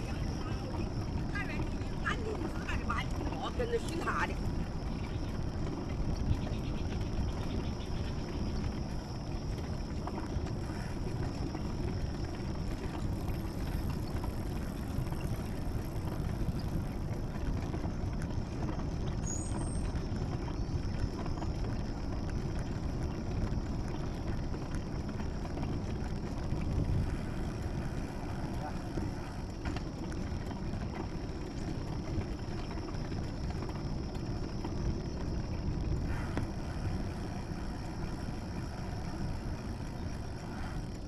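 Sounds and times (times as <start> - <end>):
wind rumble on microphone: 0.0 - 41.0.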